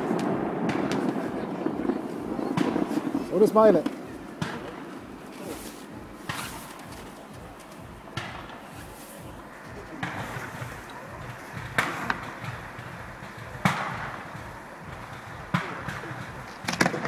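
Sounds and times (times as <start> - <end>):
fireworks bangs echoing: 0.0 - 17.0.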